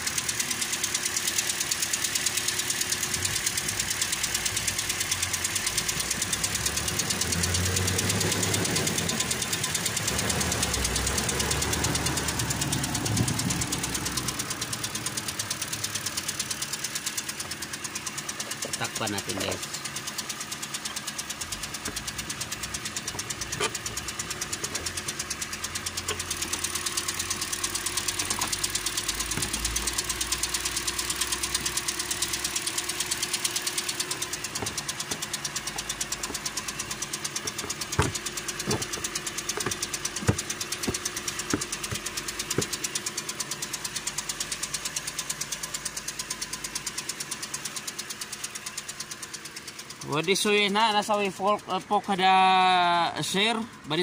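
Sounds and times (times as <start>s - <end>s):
car engine knocking: 0.0s - 54.0s.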